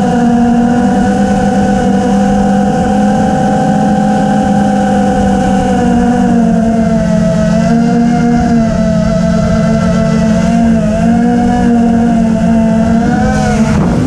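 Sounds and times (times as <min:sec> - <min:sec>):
drone motors whining: 0:00.0 - 0:14.0
low rushing noise: 0:00.0 - 0:14.0.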